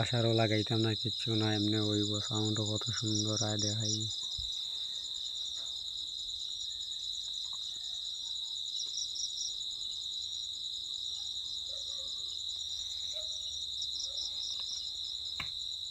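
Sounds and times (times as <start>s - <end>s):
insects chirping: 0.0s - 15.9s.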